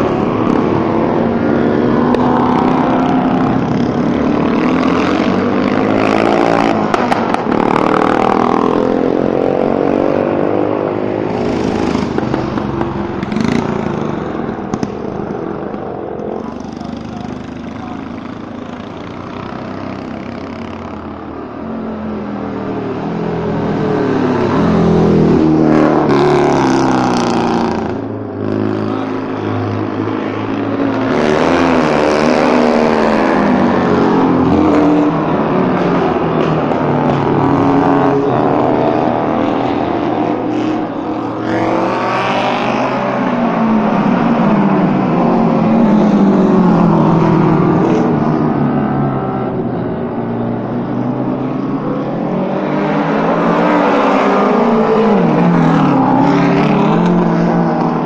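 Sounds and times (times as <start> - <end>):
racing engines revving past: 0.0 - 58.0.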